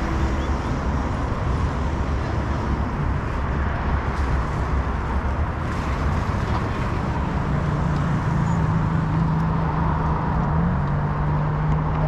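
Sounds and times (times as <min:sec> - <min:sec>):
city street traffic: 0:00.0 - 0:12.0
vehicle engine humming: 0:00.0 - 0:12.0.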